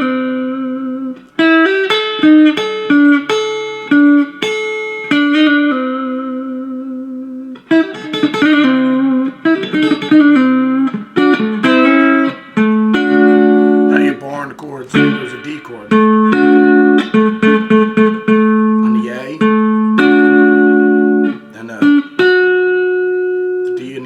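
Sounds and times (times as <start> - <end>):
clean electric guitar picking: 0.0 - 24.0.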